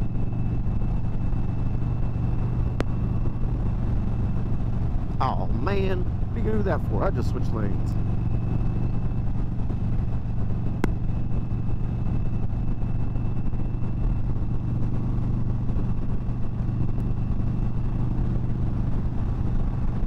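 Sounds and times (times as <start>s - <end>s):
motorcycle engine cruising: 0.0s - 20.0s
rushing wind noise: 0.0s - 20.0s.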